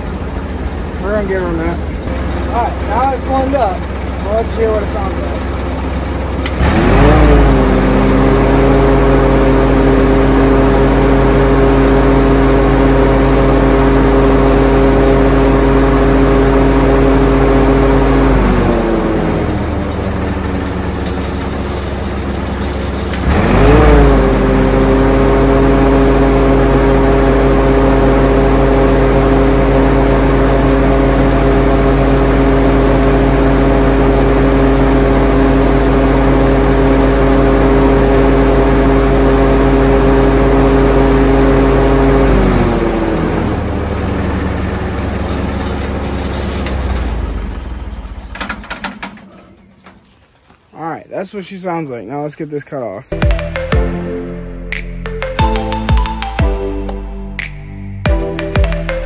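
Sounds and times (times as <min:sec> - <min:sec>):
welder engine running: 0:00.0 - 0:51.8.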